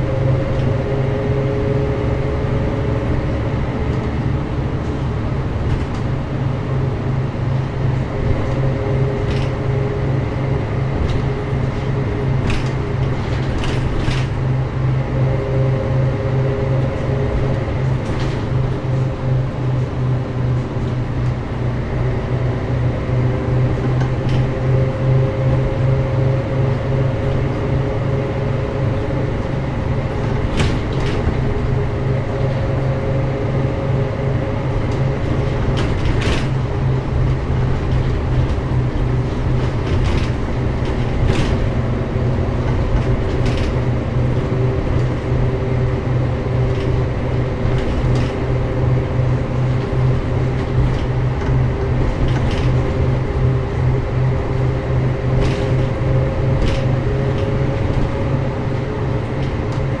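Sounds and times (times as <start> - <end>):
bus engine running: 0.0 - 60.0.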